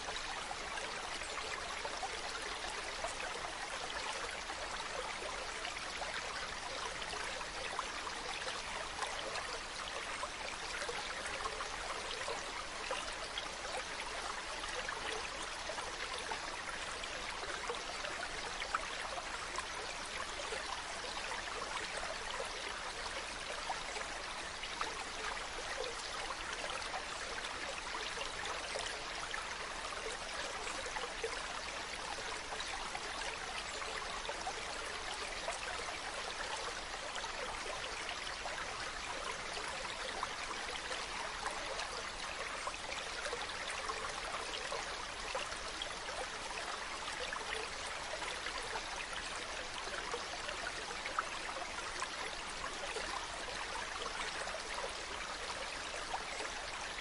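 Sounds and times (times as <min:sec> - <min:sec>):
small splashes and trickles: 0:00.0 - 0:57.0.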